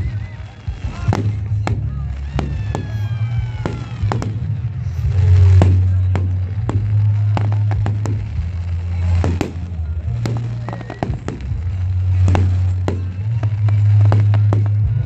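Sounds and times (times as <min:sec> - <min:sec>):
deep bass drone: 0:00.0 - 0:15.0
fireworks bangs and pops: 0:00.0 - 0:15.0.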